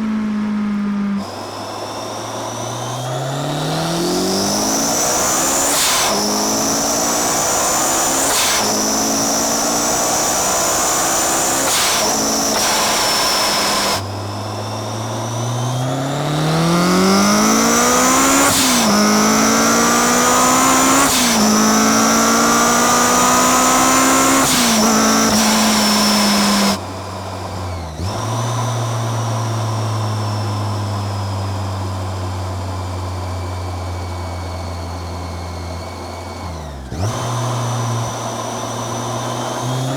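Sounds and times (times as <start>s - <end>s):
car engine accelerating hard: 0.0s - 39.9s
supercharger whine: 0.0s - 39.9s.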